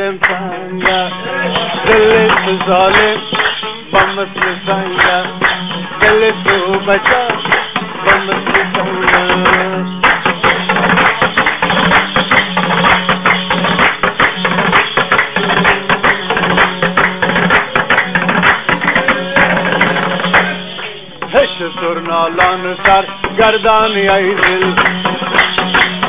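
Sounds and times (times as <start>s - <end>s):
long-necked lute strummed fast: 0.0s - 26.0s.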